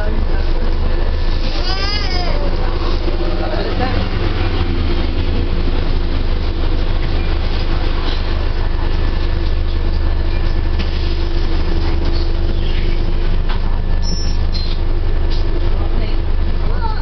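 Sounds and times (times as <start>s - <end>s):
constant hum: 0.0s - 17.0s
moving train rumble: 0.0s - 17.0s.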